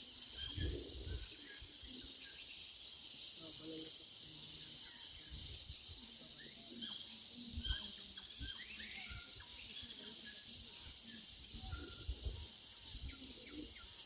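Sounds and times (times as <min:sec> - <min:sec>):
bird chirps: 0:00.0 - 0:14.0
steady high hiss: 0:00.0 - 0:14.0.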